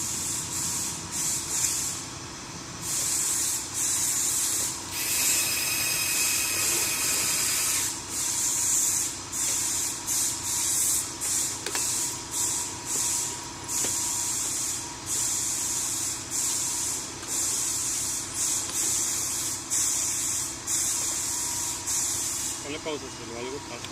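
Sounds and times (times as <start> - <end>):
hissing bursts: 0.0 - 2.1, 2.8 - 22.6
faint motor whine: 0.0 - 23.9.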